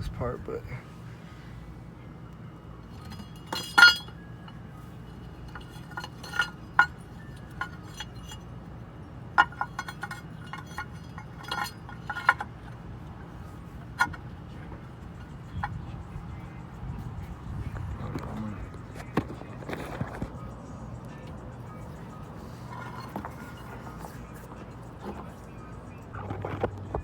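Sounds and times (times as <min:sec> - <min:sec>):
low steady hum: 0:00.0 - 0:27.0
metal tools clinking: 0:02.8 - 0:08.6, 0:09.3 - 0:26.1.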